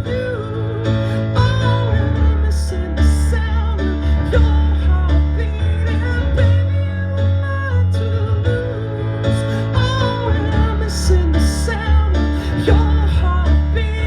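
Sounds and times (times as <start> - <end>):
bass line: 0.0 - 14.0.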